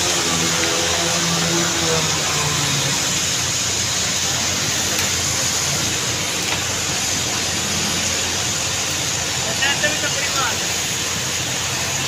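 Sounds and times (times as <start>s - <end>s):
vehicles splashing through water: 0.0s - 12.0s
water rushing on flooded road: 0.0s - 12.0s.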